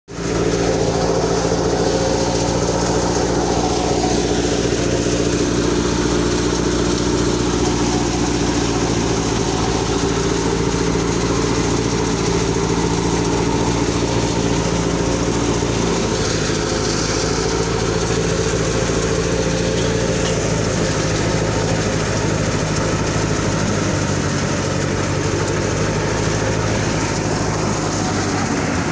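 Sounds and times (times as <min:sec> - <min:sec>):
harvester engine running: 0:00.1 - 0:28.9.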